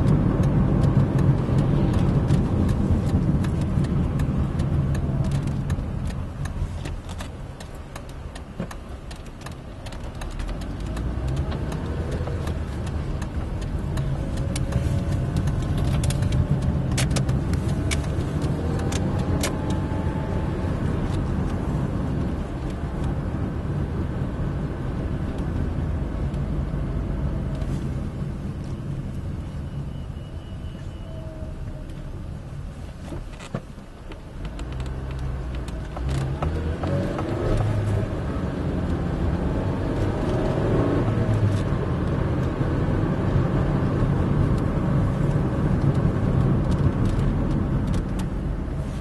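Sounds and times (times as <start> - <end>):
car engine: 0.0 - 49.0
road noise: 0.0 - 49.0.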